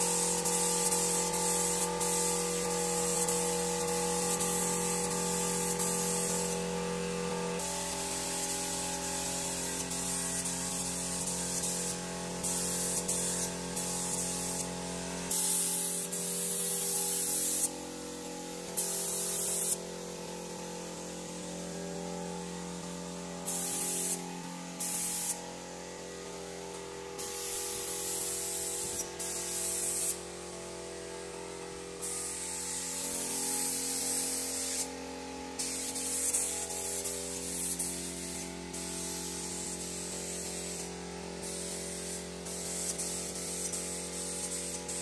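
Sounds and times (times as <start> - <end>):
spray gun hissing in bursts: 0.0 - 45.0.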